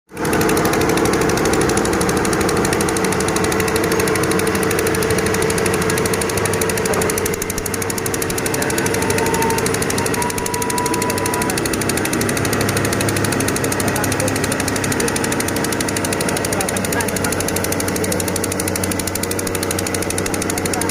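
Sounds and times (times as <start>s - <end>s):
heavy diesel engine clattering: 0.1s - 20.9s.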